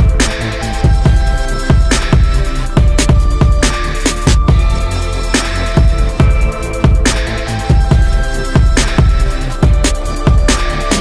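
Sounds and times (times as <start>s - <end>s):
electronic music with bass beat: 0.0s - 11.0s.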